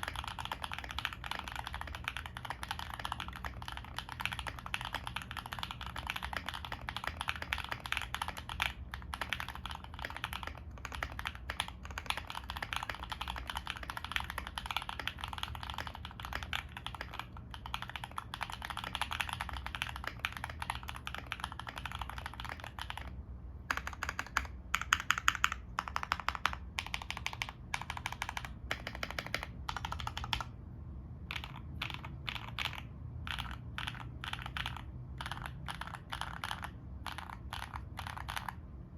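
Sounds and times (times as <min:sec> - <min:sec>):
mechanical keyboard typing: 0:00.0 - 0:30.6, 0:31.2 - 0:38.9.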